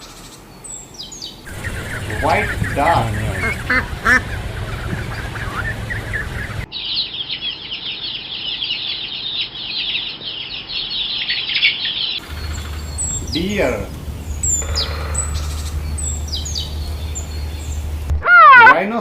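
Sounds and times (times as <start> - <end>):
many small birds chirping: 0.0 - 18.1.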